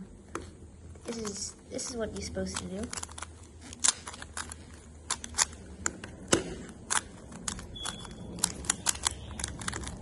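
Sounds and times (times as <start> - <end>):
puzzle cube clicking as turned: 1.1 - 10.0.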